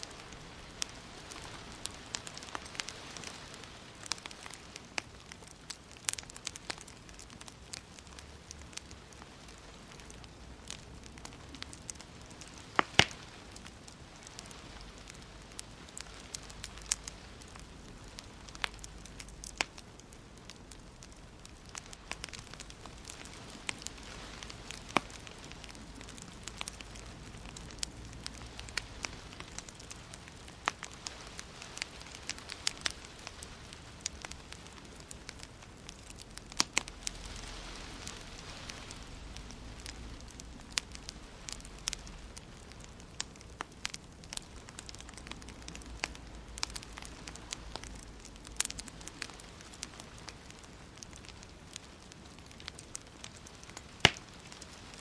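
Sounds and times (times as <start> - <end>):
fire hissing: 0.0 - 55.0
wood fire crackling: 0.0 - 55.0.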